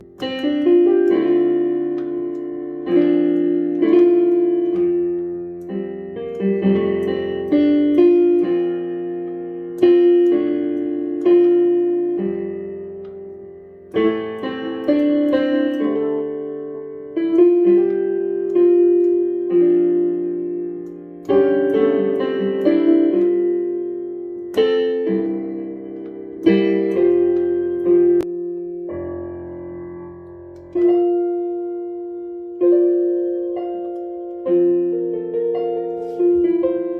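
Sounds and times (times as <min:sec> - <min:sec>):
slow solo piano chords: 0:00.0 - 0:36.9.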